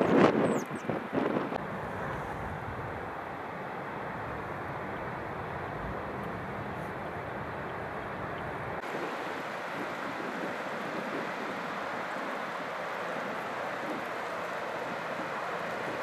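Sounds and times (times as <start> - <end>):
floodwater rushing: 0.0 - 16.0
wind rumble on microphone: 0.0 - 16.0.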